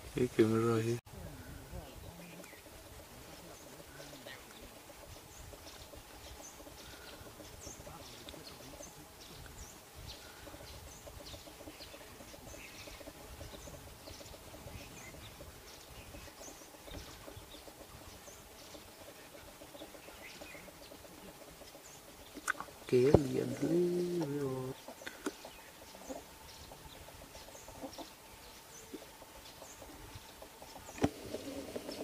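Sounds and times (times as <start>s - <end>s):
faint steady hum: 0.0s - 32.0s
small birds chirping: 0.0s - 32.0s.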